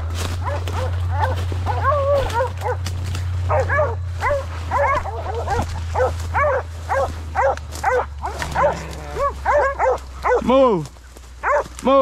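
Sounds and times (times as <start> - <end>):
dogs barking and baying: 0.0 - 11.8.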